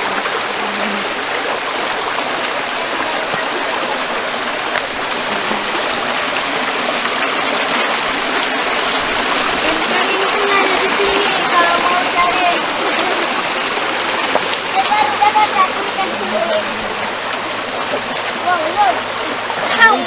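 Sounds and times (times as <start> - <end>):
water rushing over stones: 0.0 - 20.0.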